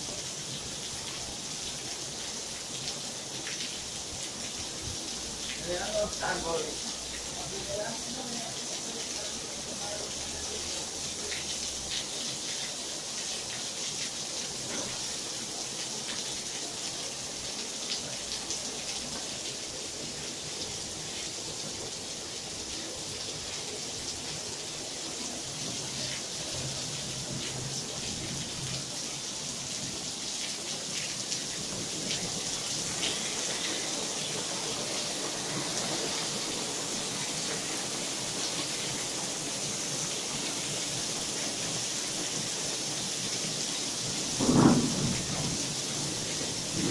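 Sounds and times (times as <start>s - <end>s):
heavy rain on tiles: 0.0s - 46.9s.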